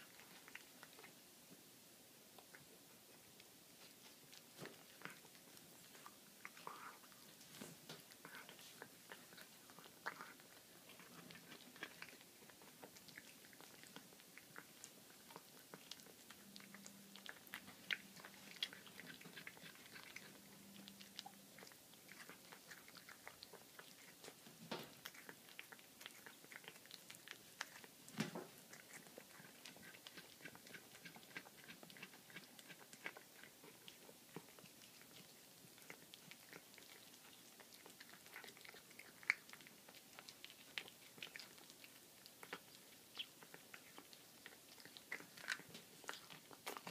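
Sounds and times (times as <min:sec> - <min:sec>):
cat chewing and crunching bones: 0:00.0 - 0:46.9.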